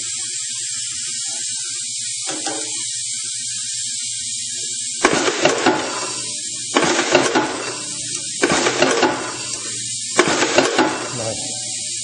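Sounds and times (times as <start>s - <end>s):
machine hiss and hum: 0.0s - 12.0s.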